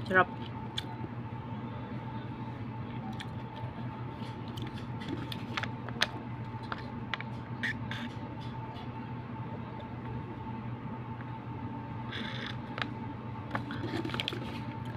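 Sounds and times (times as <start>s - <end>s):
steady background hum: 0.0s - 14.9s.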